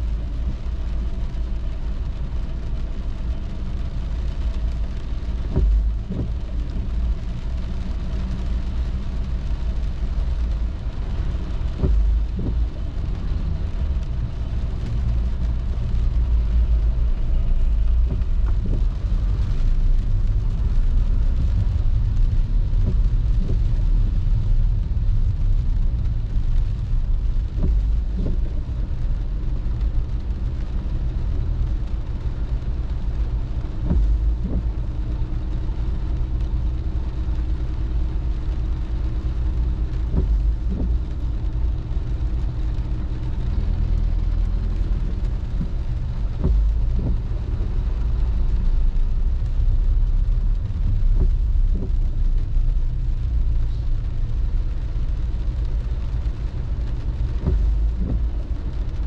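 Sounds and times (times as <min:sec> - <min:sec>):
car engine and road noise: 0:00.0 - 0:59.0
windscreen wipers knocking: 0:02.5 - 0:54.6, 0:55.2 - 0:59.0.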